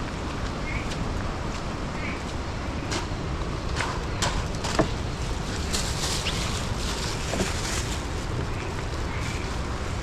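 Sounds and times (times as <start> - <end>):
wind and rain rushing: 0.0 - 10.0.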